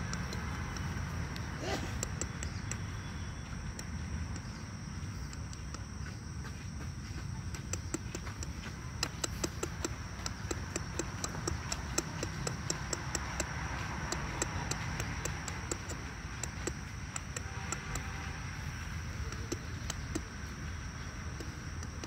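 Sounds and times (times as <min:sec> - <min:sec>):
rapid sharp clicking: 0:00.0 - 0:05.9, 0:07.4 - 0:22.0.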